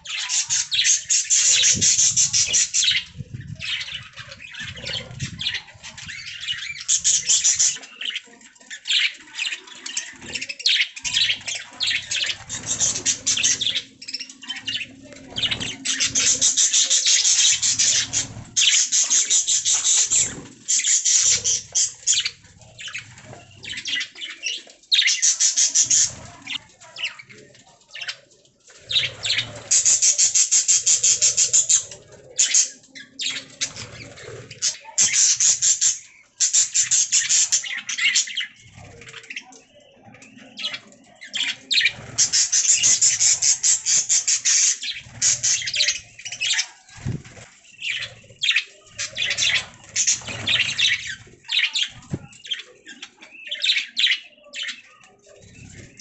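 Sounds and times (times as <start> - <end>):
budgerigars chirping and warbling: 0.0 - 56.0.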